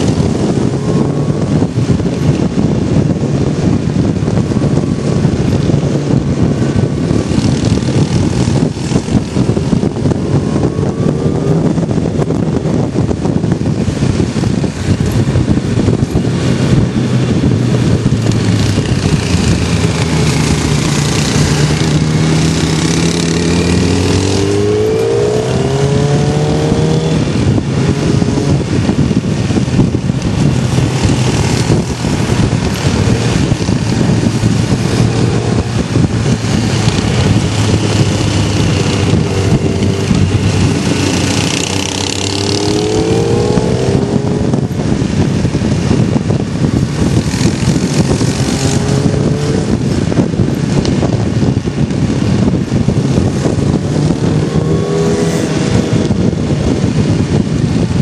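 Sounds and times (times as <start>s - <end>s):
vehicle engine shifting gears: 0.0s - 58.0s
wind on microphone: 0.0s - 58.0s.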